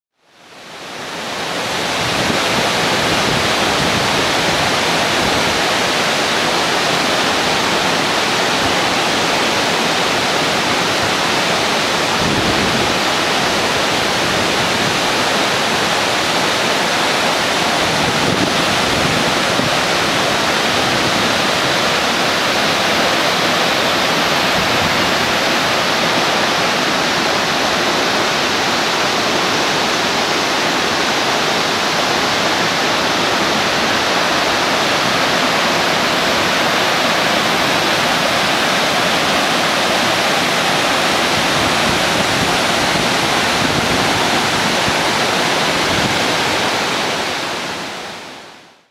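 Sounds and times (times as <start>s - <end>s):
waterfall and stream rushing: 0.2s - 48.9s.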